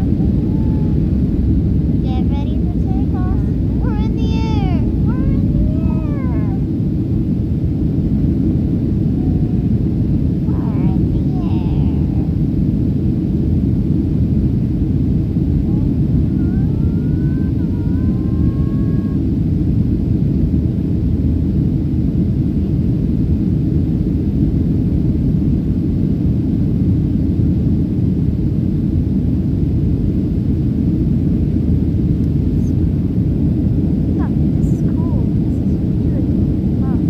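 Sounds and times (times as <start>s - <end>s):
air noise: 0.0s - 37.0s
jet engine rumble in cabin: 0.0s - 37.0s.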